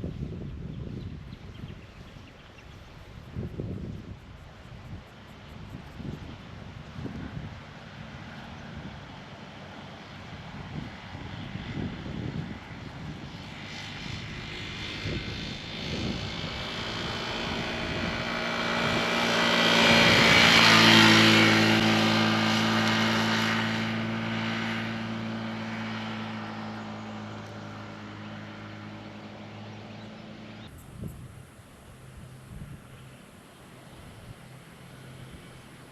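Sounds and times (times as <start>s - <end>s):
engine passing by: 0.0s - 35.9s.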